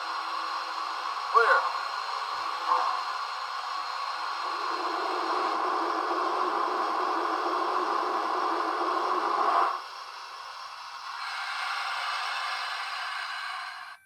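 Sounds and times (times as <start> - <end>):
steam hiss from small speaker: 0.0 - 14.0.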